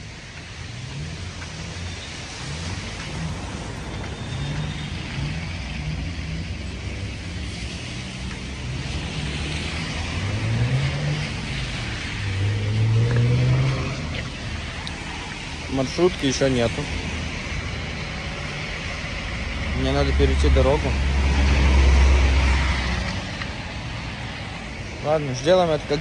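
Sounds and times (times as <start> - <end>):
road traffic: 0.0 - 26.0
vehicle passing: 0.9 - 26.0.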